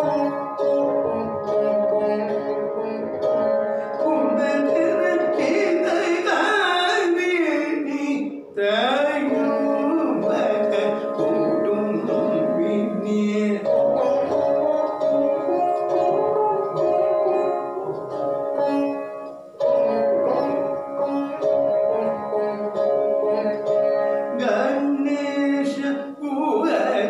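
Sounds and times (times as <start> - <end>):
man singing: 0.0 - 27.0
veena with sliding notes: 0.0 - 27.0.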